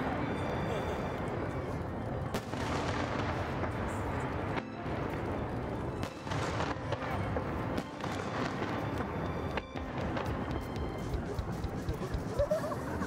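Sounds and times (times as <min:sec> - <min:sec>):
fireworks rumble and crackle: 0:00.0 - 0:13.0.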